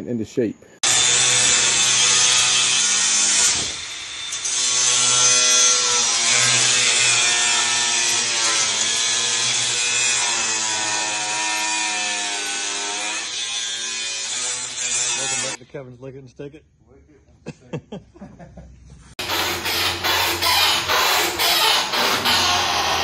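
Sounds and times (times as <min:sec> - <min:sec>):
angle grinder cutting steel: 0:00.8 - 0:15.6, 0:19.2 - 0:23.0.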